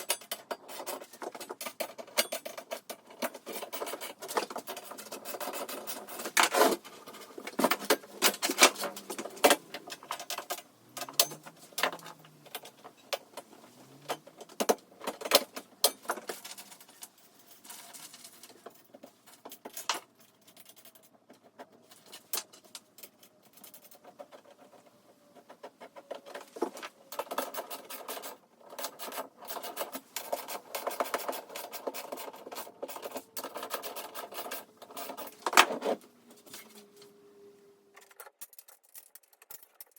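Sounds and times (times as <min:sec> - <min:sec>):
plastic and metal parts rattling: 0:00.0 - 0:37.1, 0:37.9 - 0:39.9.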